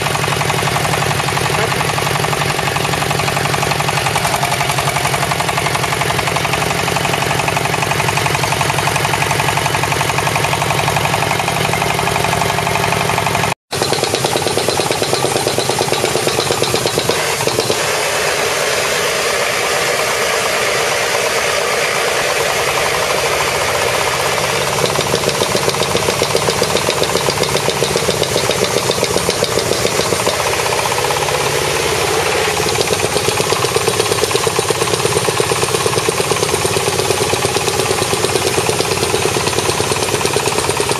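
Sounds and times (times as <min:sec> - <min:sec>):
diesel engine knocking: 0:00.0 - 0:40.9
machine drilling into ground: 0:00.0 - 0:40.9.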